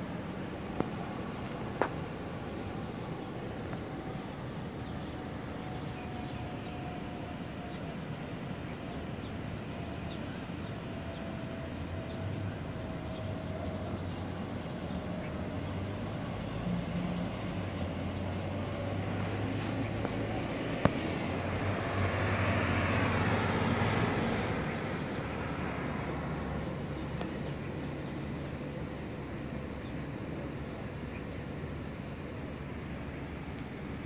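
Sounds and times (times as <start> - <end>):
distant road traffic hum: 0.0 - 34.0.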